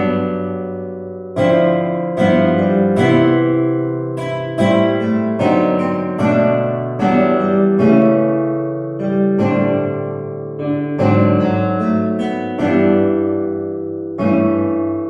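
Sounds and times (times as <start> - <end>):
jazz guitar ballad chords: 0.0 - 15.0.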